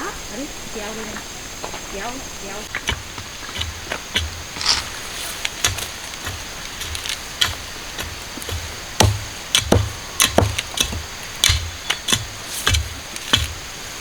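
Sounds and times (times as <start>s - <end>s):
blade chopping with thuds: 2.7s - 14.0s.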